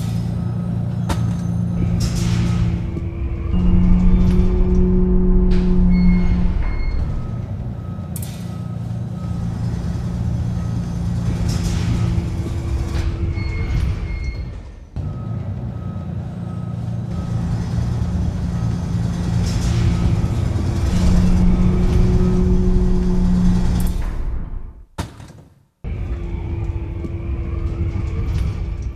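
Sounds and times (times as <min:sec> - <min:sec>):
bus engine and road rumble: 0:00.0 - 0:24.9, 0:25.9 - 0:28.9.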